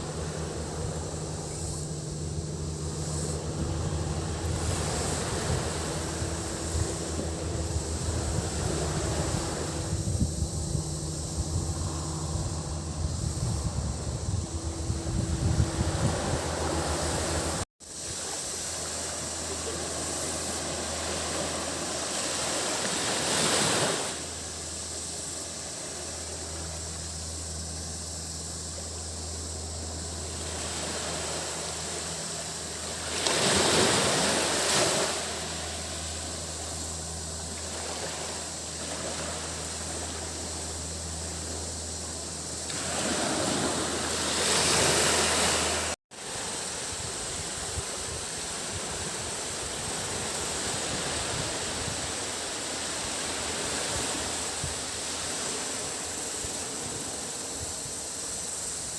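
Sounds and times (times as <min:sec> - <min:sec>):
sea waves breaking on beach: 0:00.0 - 0:12.0, 0:14.9 - 0:27.0, 0:30.0 - 0:58.9
low steady hum: 0:00.0 - 0:57.6
cicada drone: 0:00.0 - 0:58.9.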